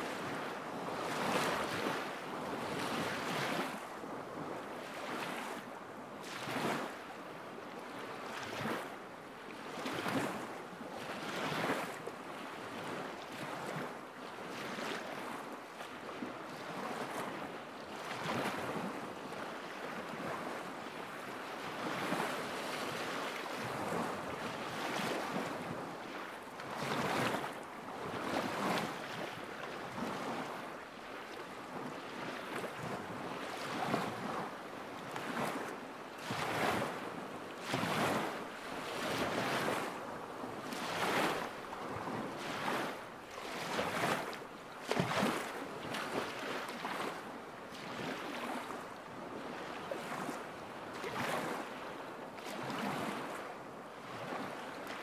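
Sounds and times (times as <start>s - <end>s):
waves lapping against shore: 0.0s - 55.0s.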